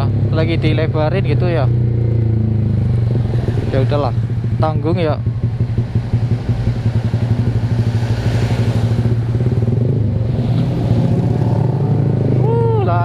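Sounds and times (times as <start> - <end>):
motorcycle engine exhaust note: 0.0 - 12.9.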